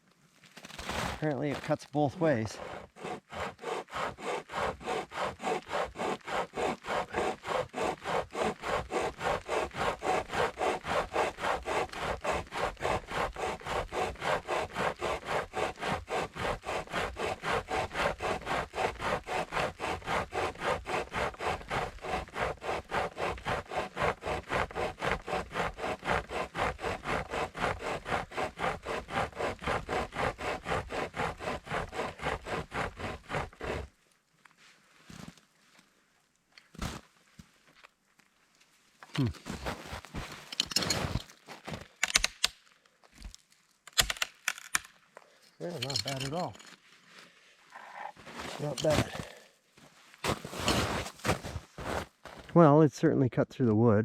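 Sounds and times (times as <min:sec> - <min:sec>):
pocket chainsaw sawing a stick: 0:00.6 - 0:34.0, 0:39.2 - 0:42.6, 0:43.9 - 0:45.0, 0:45.6 - 0:49.6, 0:50.3 - 0:52.6.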